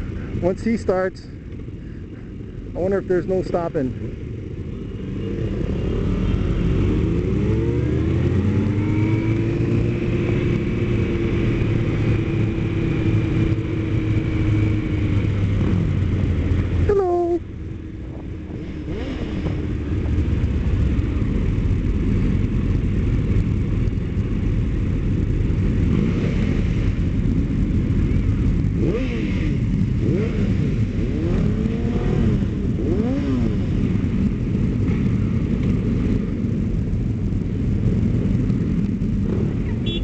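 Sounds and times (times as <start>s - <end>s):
other motorcycles in a pack: 0.0s - 40.0s
motorcycle engine revving: 3.4s - 17.0s, 17.6s - 40.0s.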